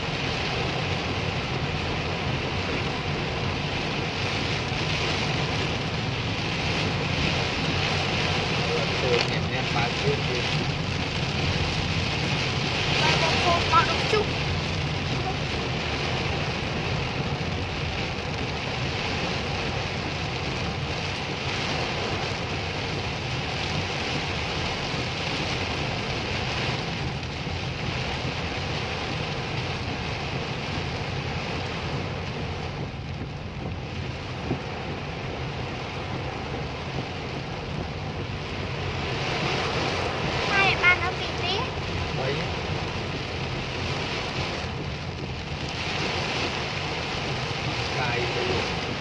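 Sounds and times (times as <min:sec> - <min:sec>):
heavy rain on a car: 0:00.0 - 0:49.0
low engine rumble: 0:00.0 - 0:49.0
tyres swishing on wet road: 0:00.0 - 0:49.0.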